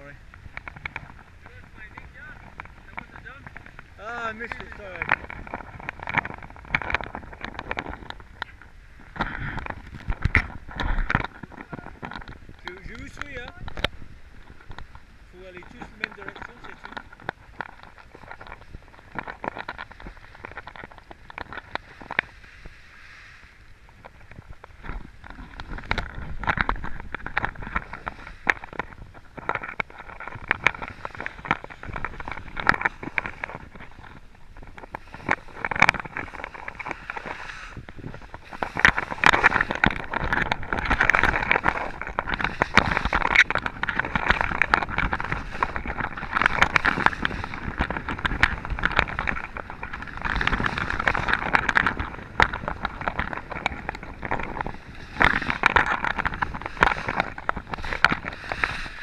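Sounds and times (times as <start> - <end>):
skis scraping over snow: 0.0 - 13.7, 15.3 - 59.0.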